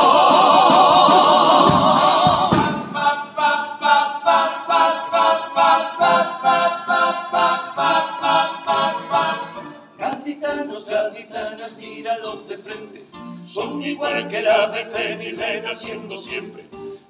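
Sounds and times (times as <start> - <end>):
male chorus singing a cappella: 0.0 - 16.8.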